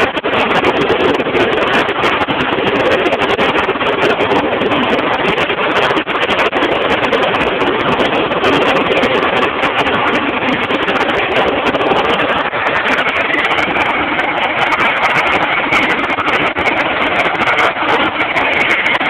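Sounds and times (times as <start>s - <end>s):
high jet whine: 0.0s - 19.0s
jet engine rushing: 0.0s - 19.0s.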